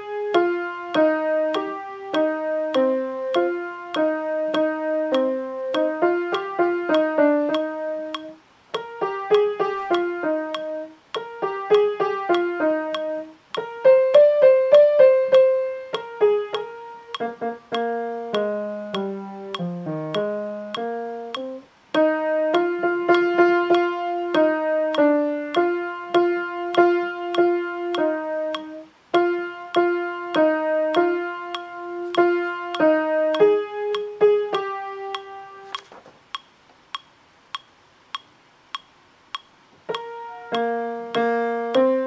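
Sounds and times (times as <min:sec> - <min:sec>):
piano playing chords: 0:00.0 - 0:35.8, 0:39.8 - 0:42.0
click track: 0:00.3 - 0:14.3, 0:15.3 - 0:41.9.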